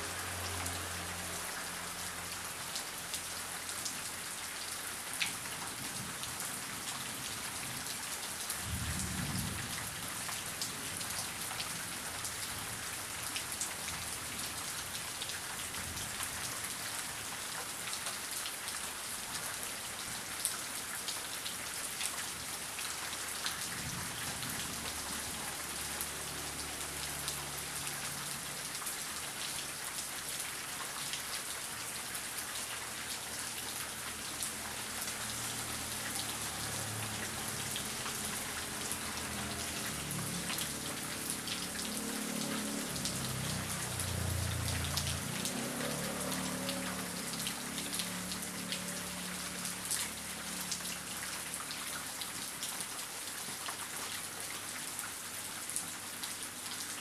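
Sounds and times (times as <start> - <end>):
raindrops hitting: 0.0 - 19.3, 22.2 - 54.4
heavy rain falling: 0.0 - 57.0.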